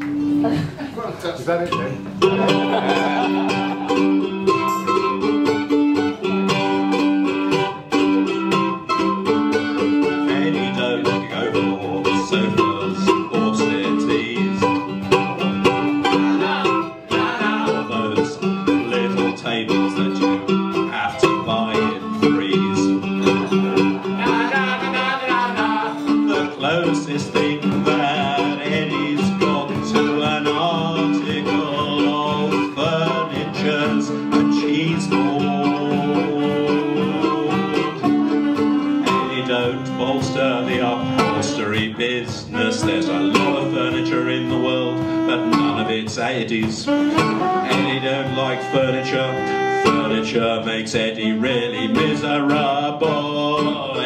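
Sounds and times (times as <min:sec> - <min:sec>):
plucked strings: 0:01.5 - 0:54.0
bowed cello: 0:02.2 - 0:54.0.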